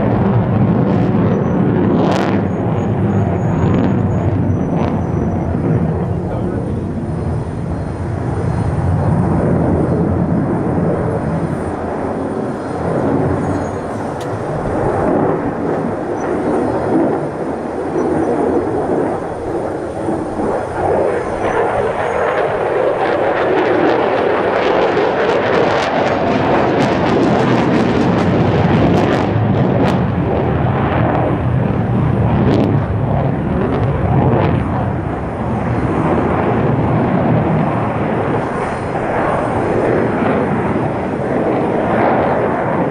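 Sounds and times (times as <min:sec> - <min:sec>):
jet engine roar with crackling: 0:00.0 - 0:42.9.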